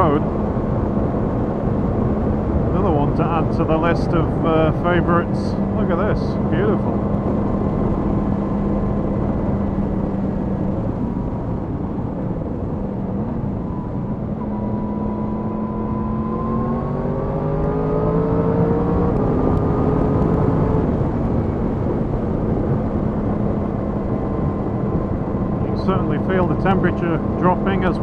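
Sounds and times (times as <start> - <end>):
rush of riding wind: 0.0 - 28.0.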